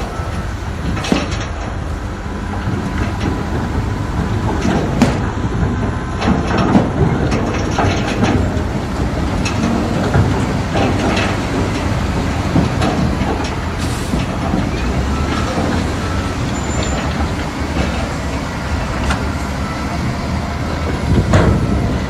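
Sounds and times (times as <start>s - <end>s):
heavy diesel machinery running: 0.0s - 22.0s
metallic clanks and knocks: 0.3s - 1.8s, 2.4s - 19.7s, 20.8s - 22.0s.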